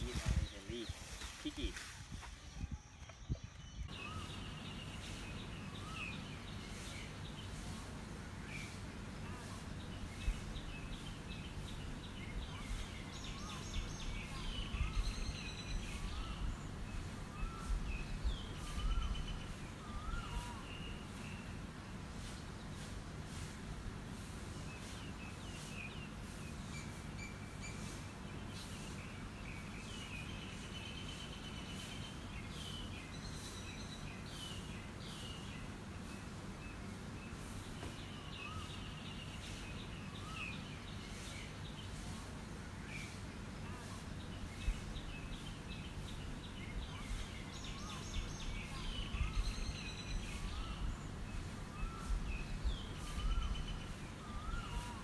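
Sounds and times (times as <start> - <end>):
birds chirping and tweeting: 0.0 - 55.0
low background noise: 0.0 - 55.0.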